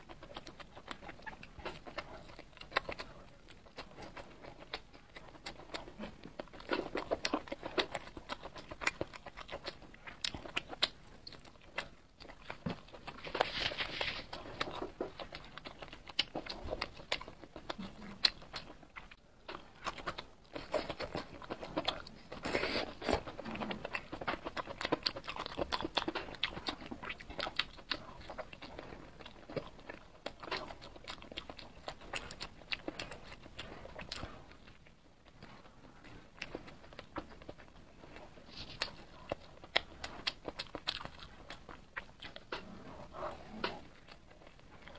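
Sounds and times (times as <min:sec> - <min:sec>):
chewing and biting food: 0:00.0 - 0:44.9.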